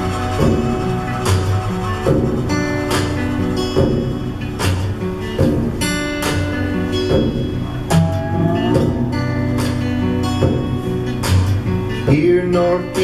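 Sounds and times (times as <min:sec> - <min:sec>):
guitar-led instrumental with beat: 0:00.0 - 0:13.0
rock song over loudspeakers: 0:00.0 - 0:13.0.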